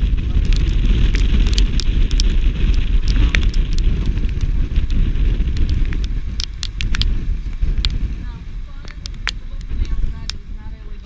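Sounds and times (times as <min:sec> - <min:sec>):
raindrops ticking on camera: 0:00.0 - 0:11.0
wind rumbling on microphone: 0:00.0 - 0:11.0.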